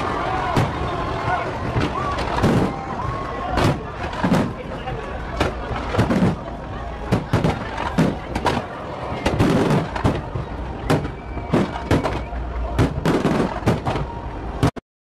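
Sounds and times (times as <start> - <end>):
fireworks bursting: 1.6 - 14.8.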